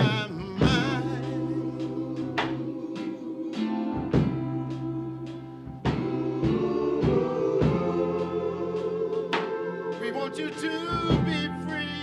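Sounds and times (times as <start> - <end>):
gospel-style music with steady beat: 0.0 - 12.0.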